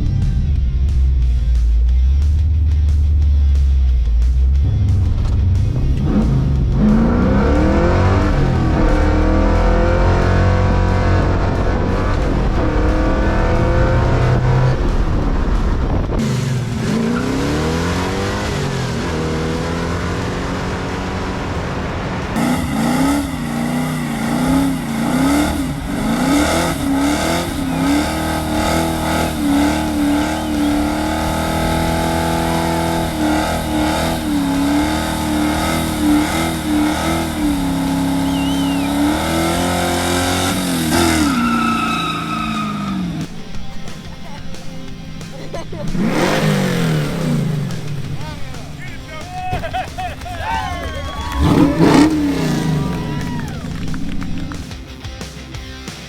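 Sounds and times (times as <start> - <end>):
car engine revving and accelerating: 0.0 - 54.8.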